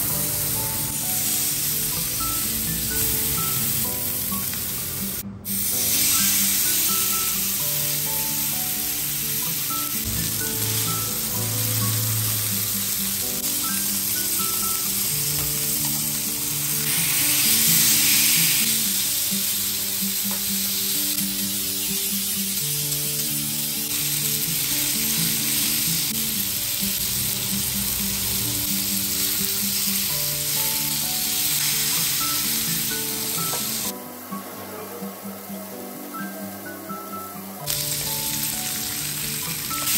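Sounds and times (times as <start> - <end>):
steak sizzling in a pan: 0.0 - 34.2, 37.6 - 39.9.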